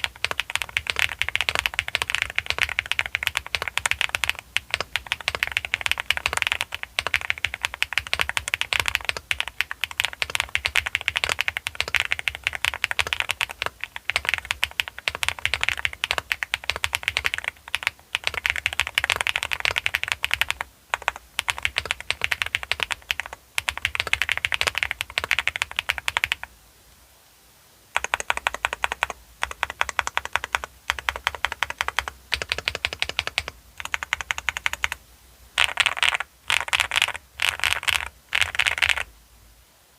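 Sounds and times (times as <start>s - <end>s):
fast typing on mechanical keyboard: 0.0s - 26.5s, 28.0s - 35.0s, 35.6s - 39.1s.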